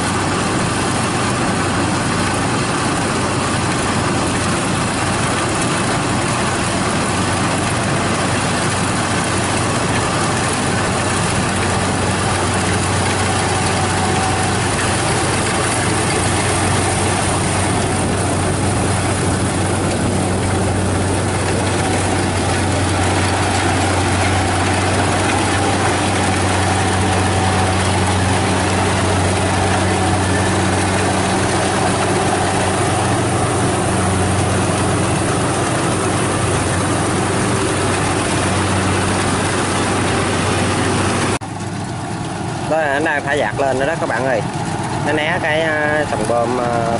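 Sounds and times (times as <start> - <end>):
diesel engine humming: 0.0 - 46.9
threshing machinery clatter: 0.0 - 46.9.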